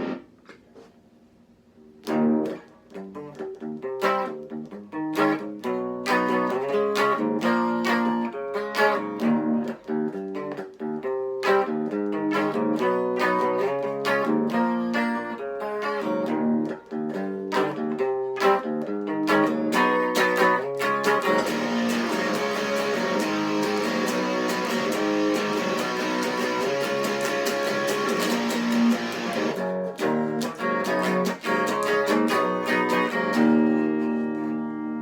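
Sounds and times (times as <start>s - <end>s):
electric guitar through amplifier: 0.0s - 0.9s, 1.8s - 35.0s.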